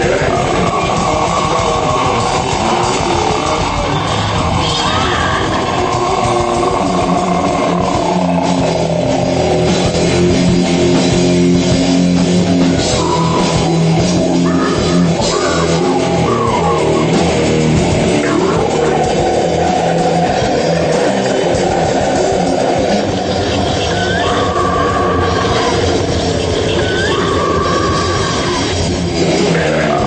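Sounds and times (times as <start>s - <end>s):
drum kit playing: 0.0s - 30.0s
electric guitar: 0.0s - 30.0s.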